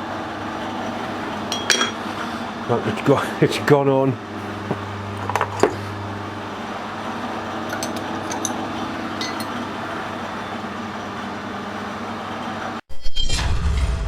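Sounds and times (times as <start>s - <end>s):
machine shop hum: 0.0s - 12.8s.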